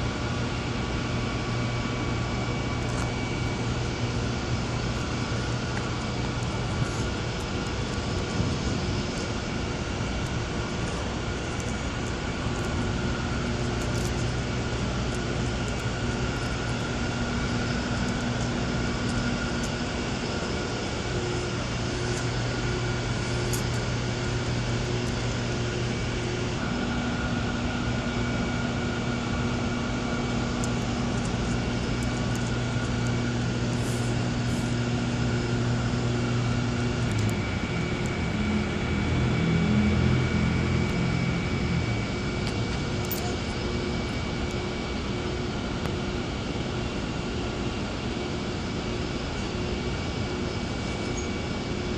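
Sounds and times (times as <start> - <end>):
faint high whine: 0.0 - 51.9
machine hum with low drone: 0.0 - 51.9.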